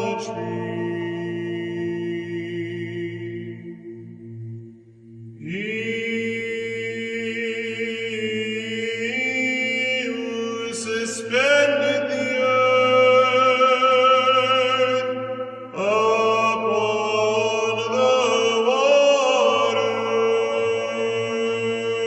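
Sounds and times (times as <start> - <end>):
slow chant of held sung notes: 0.0 - 22.0.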